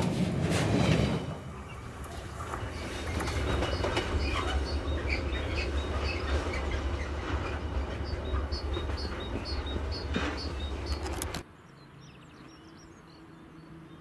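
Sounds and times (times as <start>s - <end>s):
train rumbling on rails: 0.0s - 11.4s.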